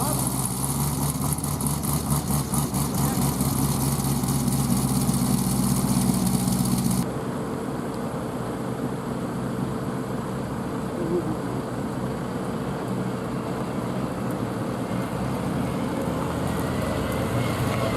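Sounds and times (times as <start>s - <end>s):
car engine running: 0.0s - 17.9s
street noise: 0.0s - 17.9s.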